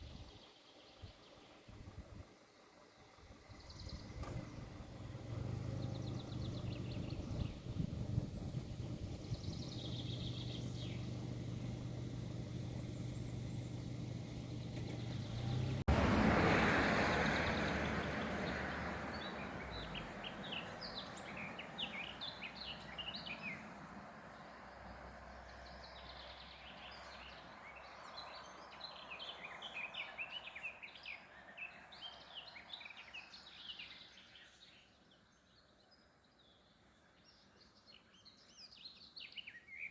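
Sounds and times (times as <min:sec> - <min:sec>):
low engine-like hum: 0:00.0 - 0:34.6
small birds chirping: 0:03.4 - 0:15.9, 0:17.0 - 0:39.9.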